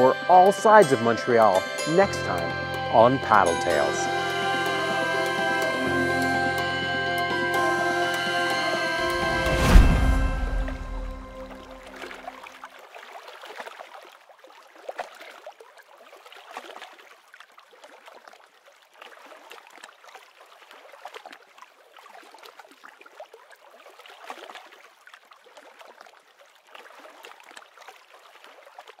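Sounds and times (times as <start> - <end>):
small waves lapping: 0.0 - 29.0.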